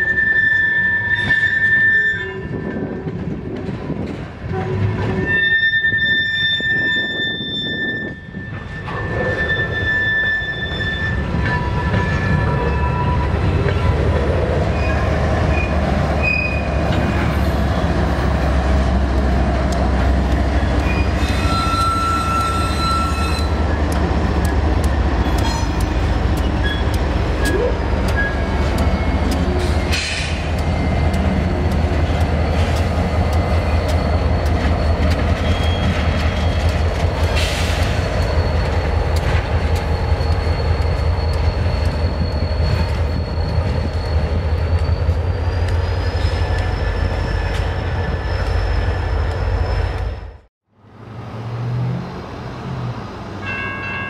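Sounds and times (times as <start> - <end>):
train wheel squeals: 0.0 - 3.3, 3.9 - 18.0, 19.9 - 50.4
diesel locomotive engine rumble: 0.0 - 54.0.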